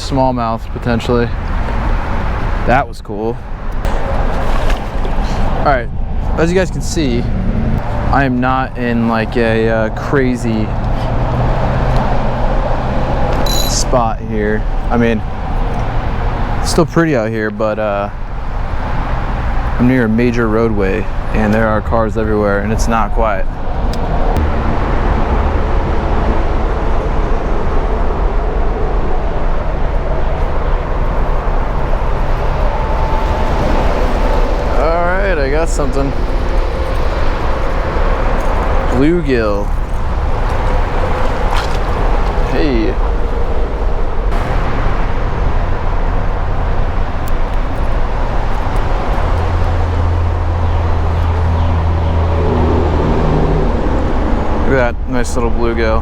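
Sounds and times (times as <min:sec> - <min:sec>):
cars and trucks passing: 0:00.0 - 0:56.0
highway traffic noise: 0:00.0 - 0:56.0
deep low rumble: 0:03.4 - 0:17.1, 0:18.1 - 0:55.6.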